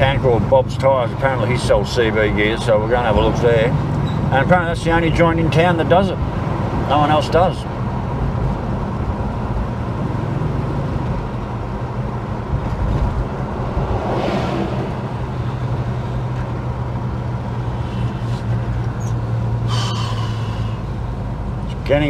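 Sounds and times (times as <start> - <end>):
car engine drone: 0.0 - 22.0
road noise: 0.0 - 22.0.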